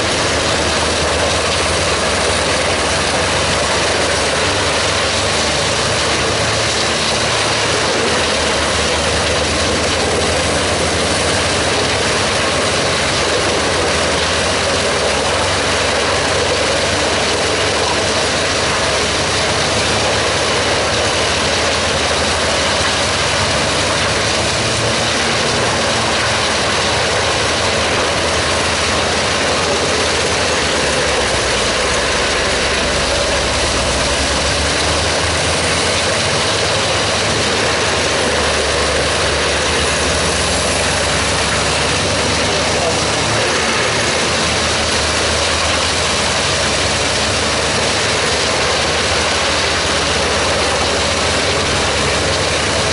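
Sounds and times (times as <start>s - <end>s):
wood chipper chipping logs: 0.0s - 52.9s.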